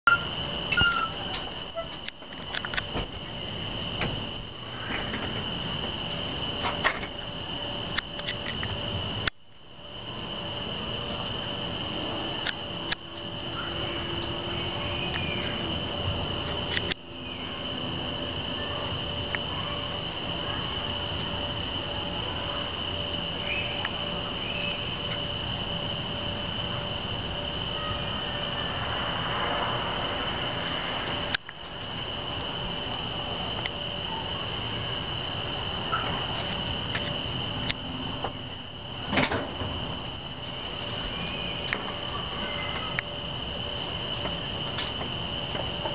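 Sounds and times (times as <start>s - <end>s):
fast pulsing insect chirp: 0.1s - 45.9s
insects trilling: 0.1s - 45.9s.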